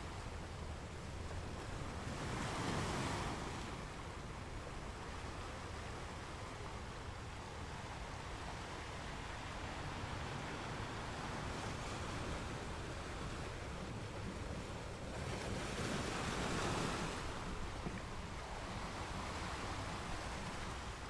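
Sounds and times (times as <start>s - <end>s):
ocean waves on sand beach: 0.0s - 21.0s.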